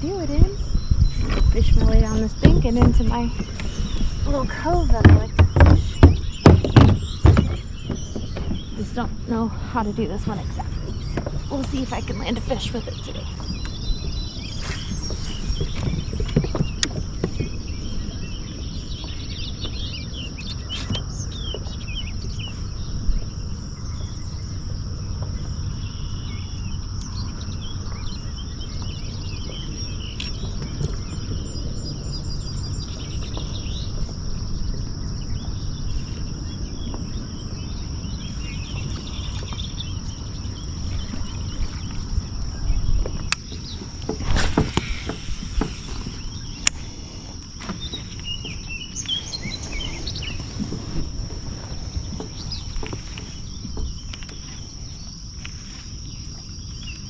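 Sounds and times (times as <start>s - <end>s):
birds chirping and calling: 0.0s - 57.0s
low rumble of noise: 0.0s - 57.0s.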